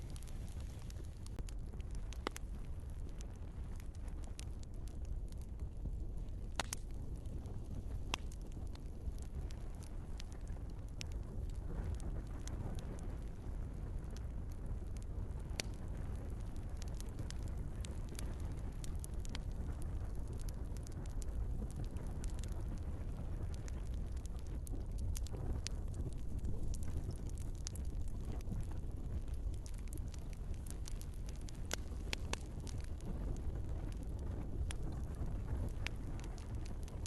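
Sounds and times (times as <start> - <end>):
burning logs crackling and popping: 0.0 - 37.0
low rumble of flame: 0.0 - 37.0.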